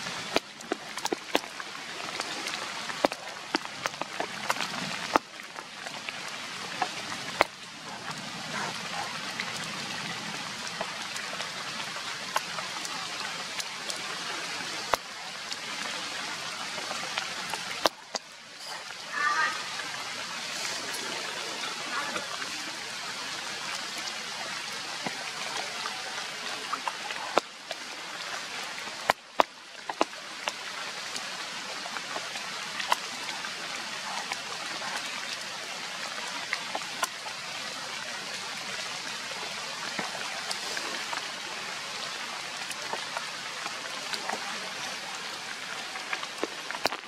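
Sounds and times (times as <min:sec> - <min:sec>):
raindrops ticking nearby: 0:00.0 - 0:47.0
steady rain hiss: 0:00.0 - 0:47.0.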